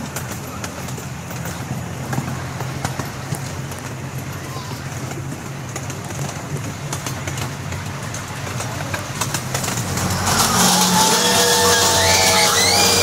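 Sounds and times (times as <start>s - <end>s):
low engine hum: 0.0s - 13.0s
wheels squealing: 0.0s - 13.0s.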